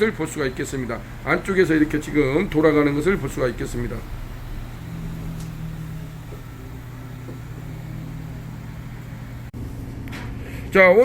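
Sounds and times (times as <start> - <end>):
rotisserie motor and fan hum: 0.0 - 10.4.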